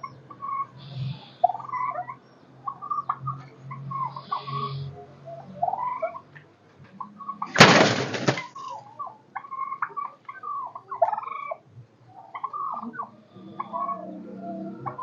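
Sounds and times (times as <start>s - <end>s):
farm birds chirping and squawking: 0.0s - 15.0s.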